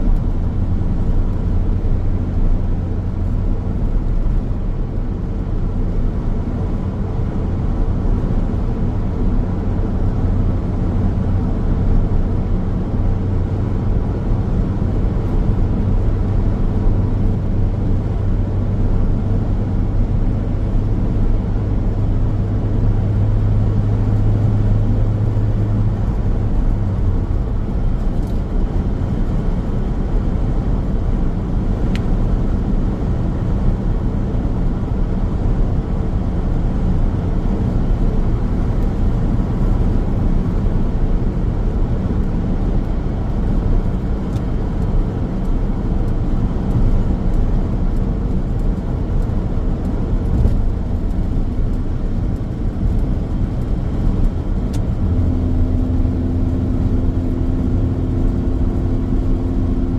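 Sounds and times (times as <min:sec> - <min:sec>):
low engine hum: 0:00.0 - 0:59.9
tyre and road noise: 0:00.0 - 0:59.9.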